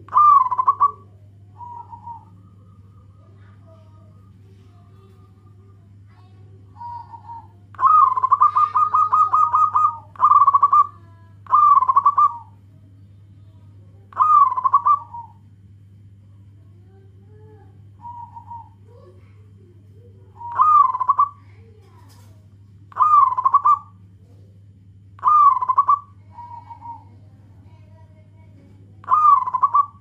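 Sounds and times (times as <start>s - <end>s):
dove cooing: 0.0s - 12.7s, 14.1s - 15.4s, 17.3s - 22.3s, 22.9s - 24.6s, 25.2s - 30.0s.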